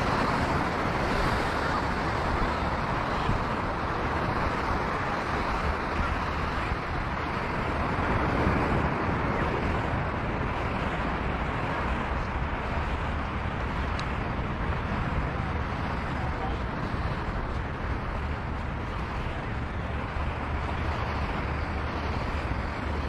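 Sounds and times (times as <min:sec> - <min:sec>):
ocean surf washing: 0:00.0 - 0:23.0
wind buffeting microphone: 0:00.0 - 0:23.0.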